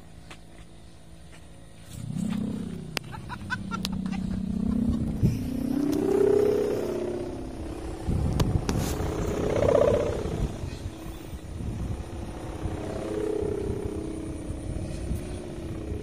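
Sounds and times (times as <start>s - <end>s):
kite hummer droning buzz: 0.0s - 16.0s
low rumble: 1.0s - 16.0s.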